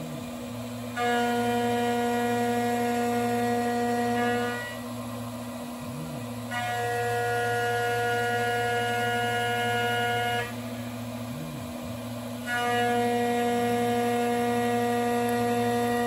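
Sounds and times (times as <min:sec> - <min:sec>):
milling cutter whine: 0:00.0 - 0:16.0
spindle hum: 0:00.0 - 0:16.0.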